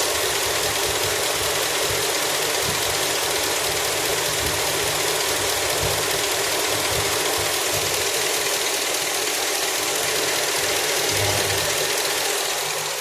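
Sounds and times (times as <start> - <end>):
engine idling with low thumps: 0.0 - 8.4, 9.8 - 12.6.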